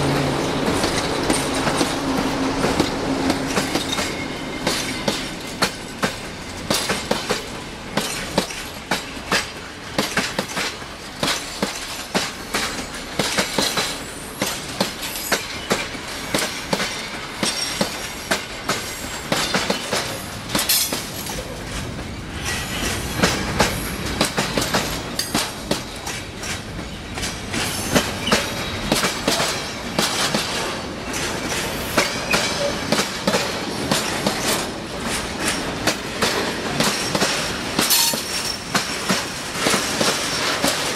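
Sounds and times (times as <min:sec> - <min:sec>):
rumble of freight train: 0:00.0 - 0:40.9
train wheels clacking on rails: 0:00.0 - 0:40.9.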